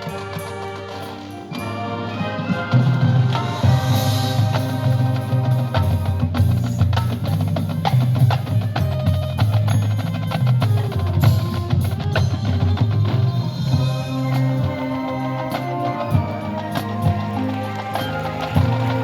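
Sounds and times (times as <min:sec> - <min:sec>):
drum and percussion hits: 0:00.0 - 0:19.0
marching band playing: 0:00.0 - 0:19.0.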